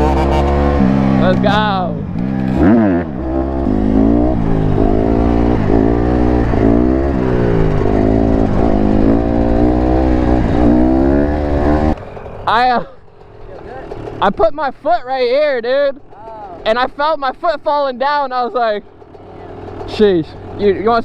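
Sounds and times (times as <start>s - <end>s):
dirt bike engine revving: 0.0s - 14.6s, 15.4s - 21.0s.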